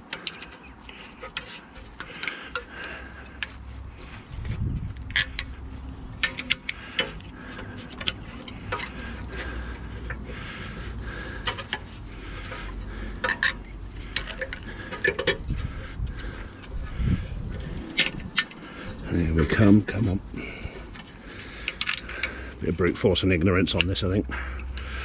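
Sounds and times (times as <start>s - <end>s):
metal tools clicking and scraping: 0.0s - 17.0s, 20.8s - 24.9s.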